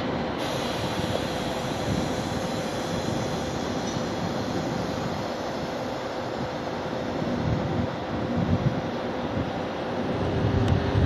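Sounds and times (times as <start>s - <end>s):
faint steady whine: 0.0s - 11.0s
locomotive running gear rumble: 0.0s - 11.0s.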